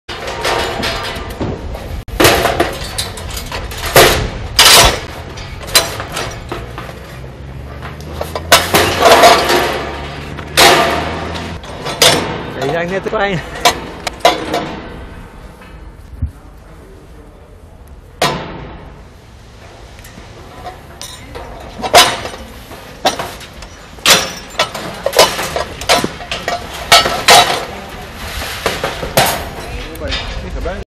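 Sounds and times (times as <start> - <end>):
metal crate clanking and rattling: 0.1 - 16.0, 18.2 - 30.8.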